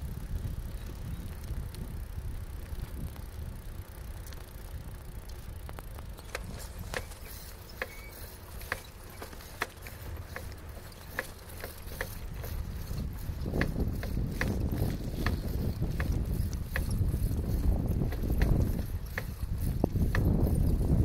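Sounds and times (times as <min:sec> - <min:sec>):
sharp clicks and rattles: 0:00.0 - 0:21.0
wind and tyre rumble: 0:00.0 - 0:21.0.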